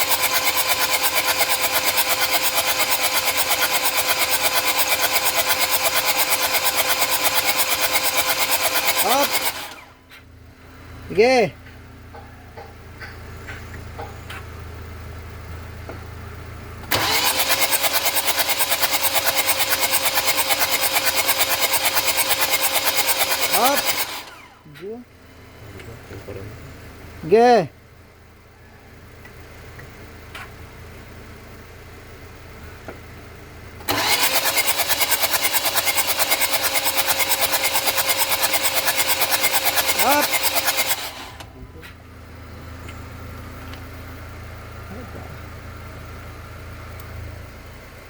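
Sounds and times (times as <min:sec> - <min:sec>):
engine cranking on starter motor: 0:00.0 - 0:48.0.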